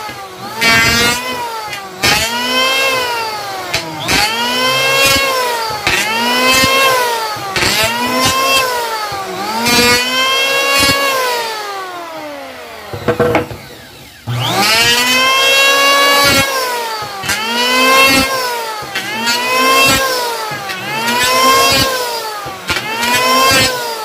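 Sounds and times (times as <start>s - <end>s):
planer knocking: 0.0s - 11.5s, 12.7s - 24.0s
electric planer cutting wood: 0.0s - 24.0s.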